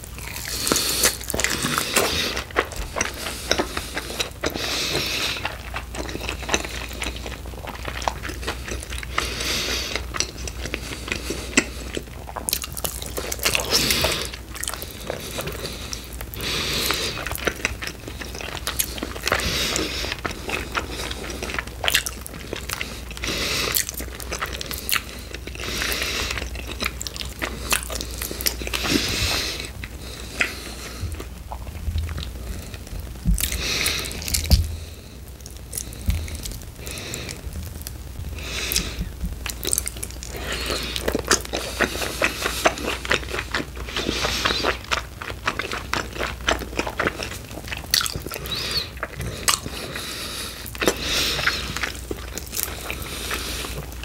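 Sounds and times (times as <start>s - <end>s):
person chewing chicken wings: 0.0s - 54.0s.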